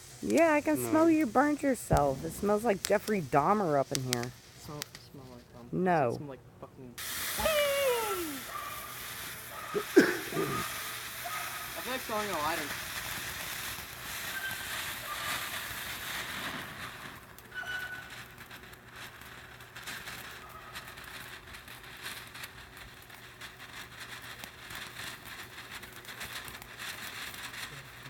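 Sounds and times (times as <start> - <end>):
firework hissing and crackling: 0.0 - 5.4, 7.0 - 28.0
firework pops: 0.0 - 5.4, 7.0 - 28.0.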